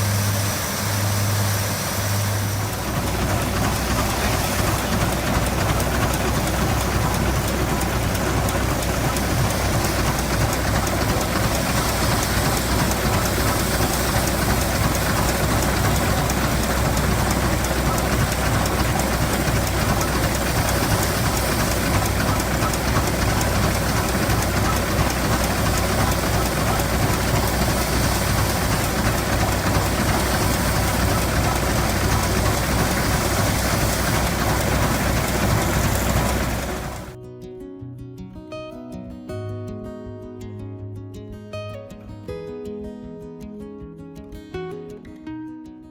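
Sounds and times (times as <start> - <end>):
even rushing noise: 0.0 - 37.2
low engine hum: 0.0 - 37.2.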